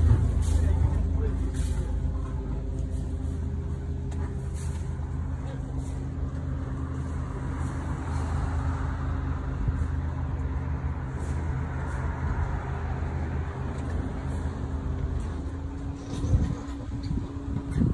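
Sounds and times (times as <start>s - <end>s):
boat engine drone: 0.0s - 17.9s.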